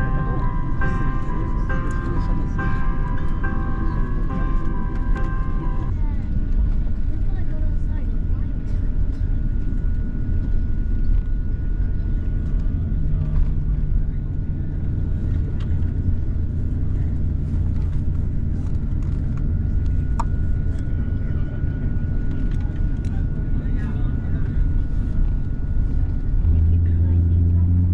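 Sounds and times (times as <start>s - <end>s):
aircraft cabin low rumble: 0.0s - 27.9s
thin steady whine: 0.0s - 27.9s.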